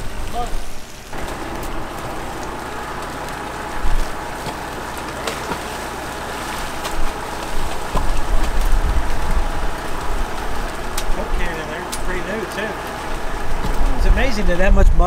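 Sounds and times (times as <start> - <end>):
low bumps: 0.0 - 15.0
truck engine running: 0.0 - 15.0.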